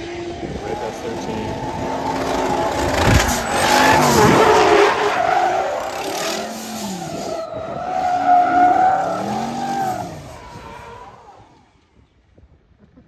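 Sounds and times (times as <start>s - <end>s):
car engines revving: 0.0s - 11.8s
tires squealing: 0.2s - 11.7s.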